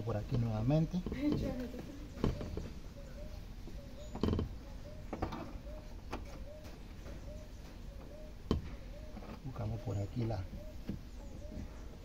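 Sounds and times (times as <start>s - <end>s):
faint repeating chirp: 2.0s - 12.0s.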